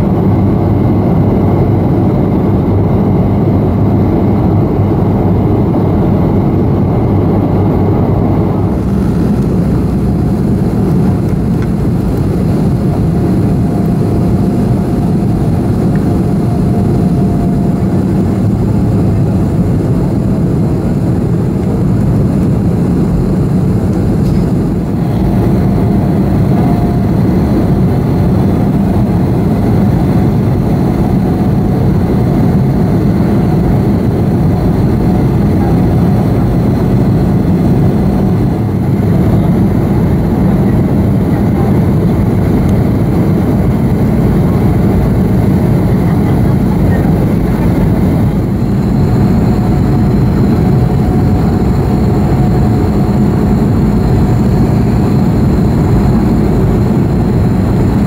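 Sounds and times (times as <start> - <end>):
aircraft cabin engine roar: 0.0 - 58.0
faint wavering whine: 0.0 - 58.0.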